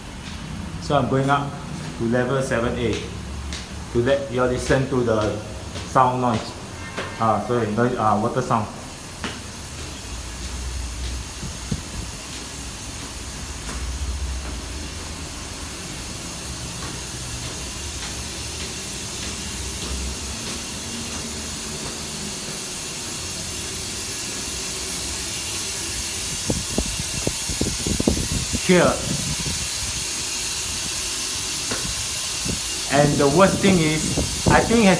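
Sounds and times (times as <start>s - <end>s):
running water hissing: 0.0s - 34.9s.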